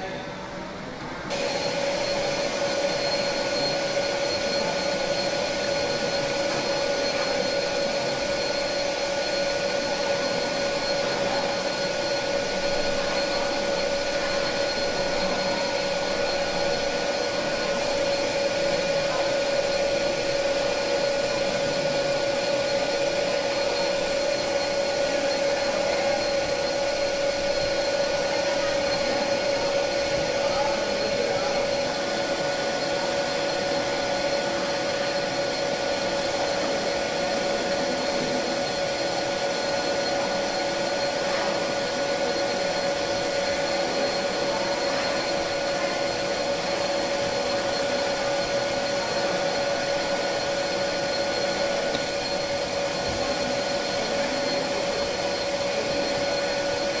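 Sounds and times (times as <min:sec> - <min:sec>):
lathe whine: 0:01.0 - 0:57.0
metal lathe running: 0:01.2 - 0:57.0.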